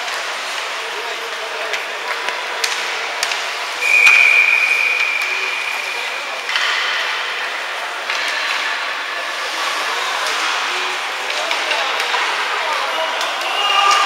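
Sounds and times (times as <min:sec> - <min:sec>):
hockey sticks and puck clacking: 0:00.0 - 0:14.0.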